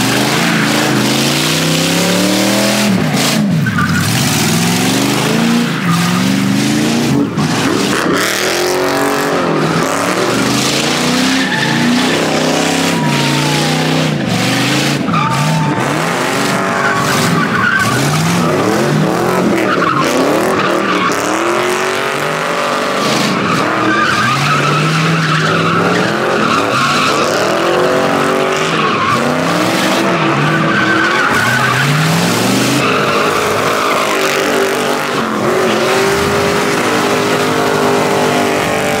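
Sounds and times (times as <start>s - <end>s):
car engine revving: 0.0s - 39.0s
tyres squealing: 0.0s - 39.0s.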